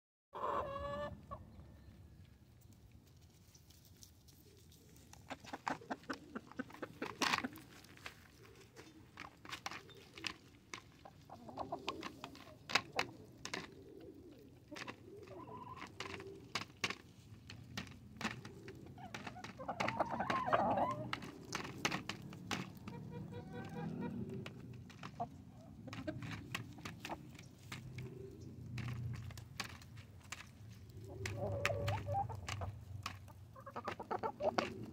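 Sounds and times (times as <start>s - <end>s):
hens clucking: 0.4s - 1.6s, 4.9s - 34.9s
chickens pecking in dish: 2.6s - 34.9s.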